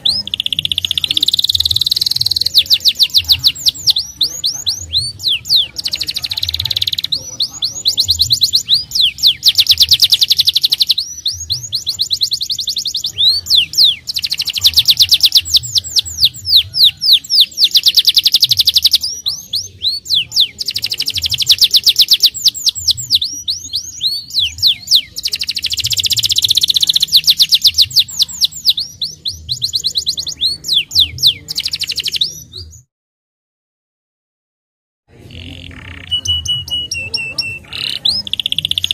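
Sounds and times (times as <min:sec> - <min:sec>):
canary singing: 0:00.0 - 0:32.9, 0:35.1 - 0:38.9.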